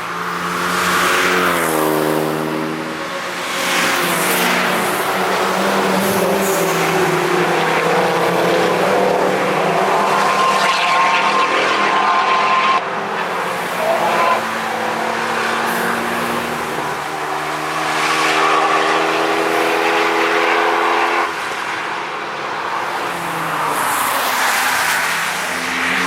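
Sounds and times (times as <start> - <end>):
racing cars driving past: 0.0 - 26.0.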